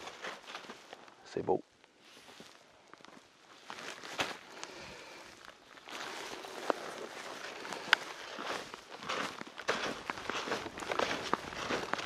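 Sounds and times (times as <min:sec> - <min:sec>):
trekking poles planting in snow: 0:00.0 - 0:12.0
footsteps on packed snow: 0:02.0 - 0:12.0.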